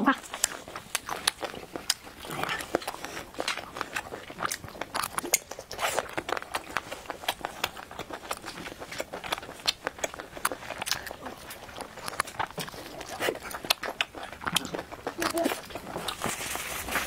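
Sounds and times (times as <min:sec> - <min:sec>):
person chewing: 0:00.1 - 0:17.0
shellfish shell crackling: 0:00.2 - 0:17.0.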